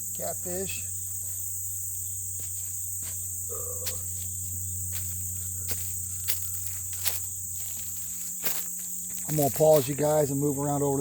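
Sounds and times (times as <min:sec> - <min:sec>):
crickets chirping: 0:00.0 - 0:11.0
low steady hum: 0:00.0 - 0:11.0.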